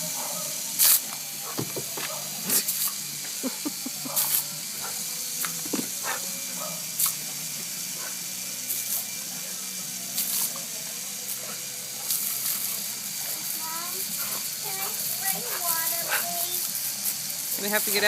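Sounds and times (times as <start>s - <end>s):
water spraying from a hose: 0.0s - 18.0s.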